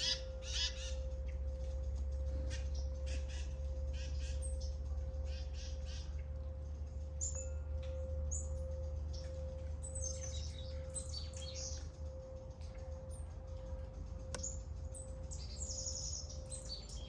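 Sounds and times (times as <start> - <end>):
faint constant hum: 0.0 - 17.0
songbirds chirping: 0.0 - 17.0.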